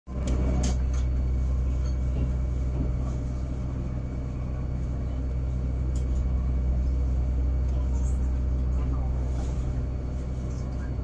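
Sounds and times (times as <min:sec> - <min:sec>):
electric train rumble and hum: 0:00.1 - 0:11.0.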